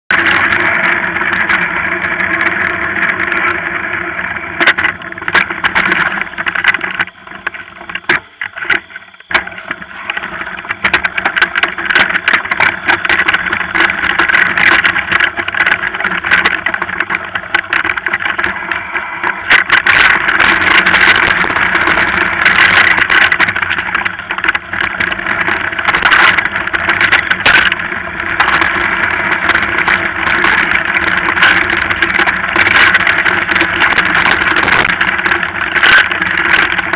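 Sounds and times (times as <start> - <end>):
mountain bike rattling over rough trail: 0.1 - 36.9.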